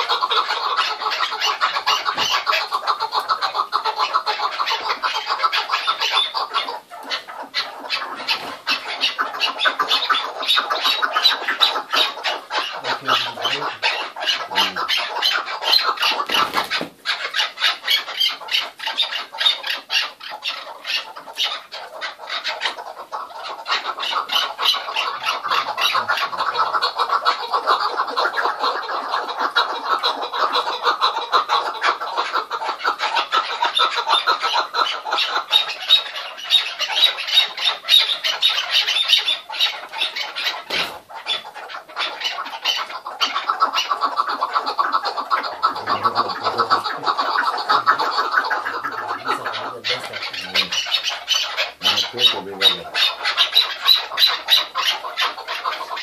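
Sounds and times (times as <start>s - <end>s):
partridges calling: 0.0s - 56.0s.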